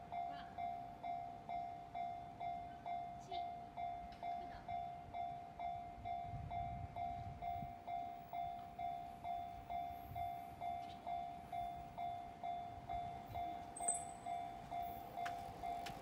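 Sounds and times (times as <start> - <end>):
level crossing alarm bell: 0.0 - 16.0.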